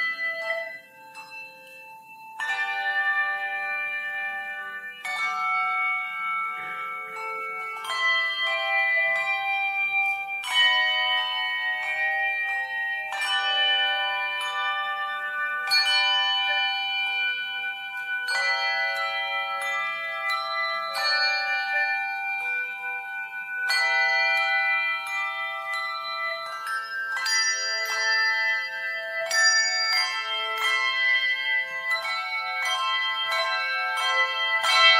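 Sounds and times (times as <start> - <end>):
tuned bells playing a melody: 0.0 - 34.9.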